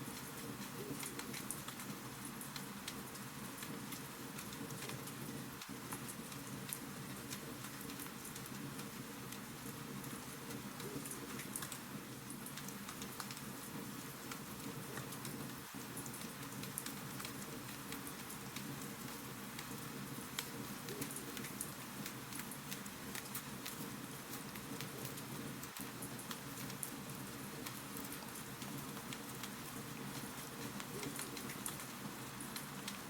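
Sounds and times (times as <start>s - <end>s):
wood fire crackling: 2.6s - 33.0s.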